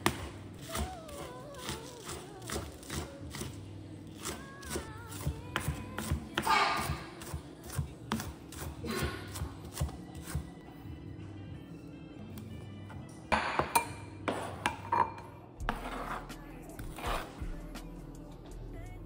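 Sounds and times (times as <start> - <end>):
music with sung melody: 0.6 - 19.0.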